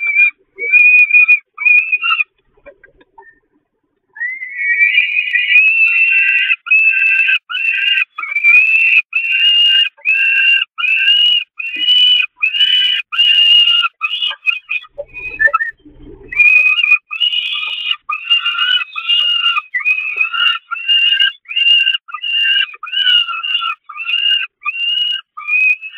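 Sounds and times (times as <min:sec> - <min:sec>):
falcon chick wailing calls: 0:00.0 - 0:03.3, 0:04.2 - 0:25.9.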